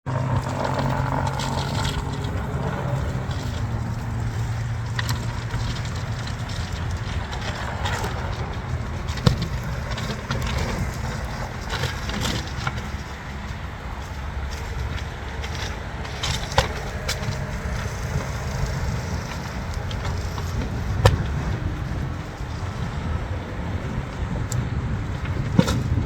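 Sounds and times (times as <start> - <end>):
vehicle engine running: 0.0 - 26.0
wind and road noise: 0.0 - 26.0.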